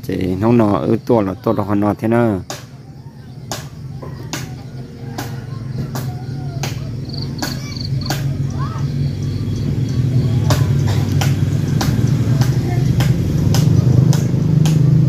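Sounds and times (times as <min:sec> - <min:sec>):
low engine hum: 0:02.4 - 0:15.0.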